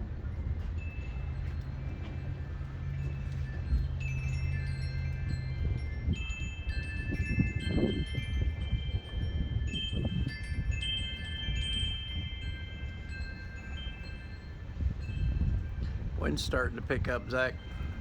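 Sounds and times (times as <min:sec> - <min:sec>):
wind rumble on microphone: 0:00.0 - 0:18.0
wind chimes ringing: 0:00.2 - 0:18.0.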